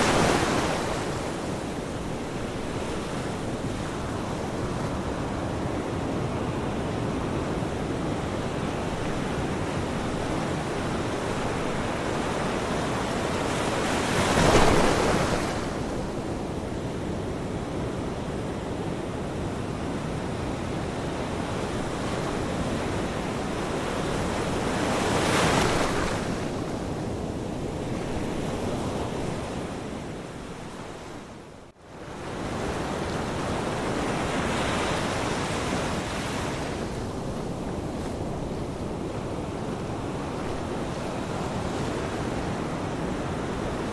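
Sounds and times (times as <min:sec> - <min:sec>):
ocean waves on shore: 0:00.0 - 0:43.9.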